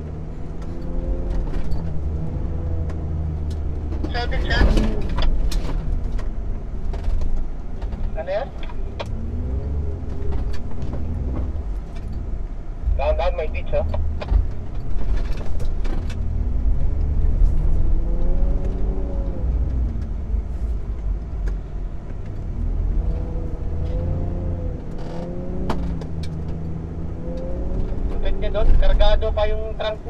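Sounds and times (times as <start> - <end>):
car engine revving under load: 0.0 - 30.0.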